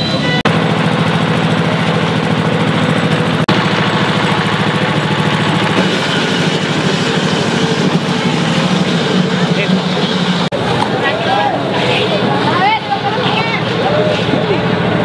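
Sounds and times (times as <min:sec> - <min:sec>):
ice crusher engine running: 0:00.0 - 0:15.0.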